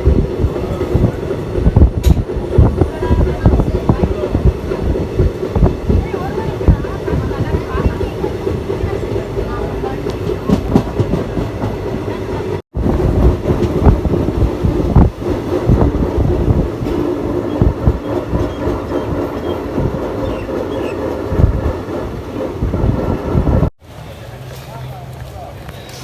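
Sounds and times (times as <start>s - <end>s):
train rumble: 0.0s - 26.0s
wheels clacking over rail joints: 0.0s - 26.0s.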